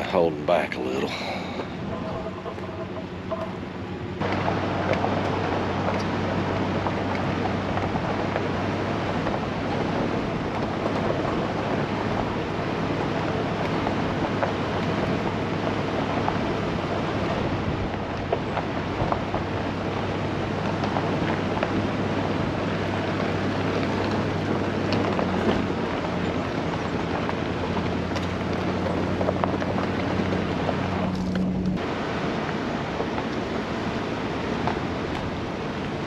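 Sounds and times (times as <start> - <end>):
truck engine low hum: 0.0 - 36.0
tyres rushing on gravel: 0.0 - 36.0.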